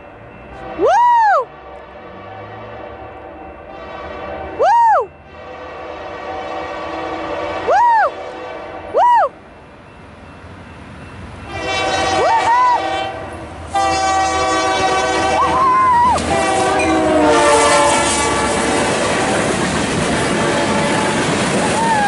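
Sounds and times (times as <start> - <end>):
locomotive and wheels rumbling: 0.0 - 22.0
locomotive air horn: 0.5 - 9.0, 11.5 - 19.5, 20.2 - 21.4.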